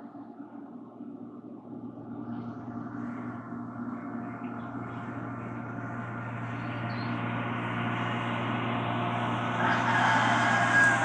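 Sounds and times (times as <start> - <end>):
tractor engine hum: 1.2 - 11.0.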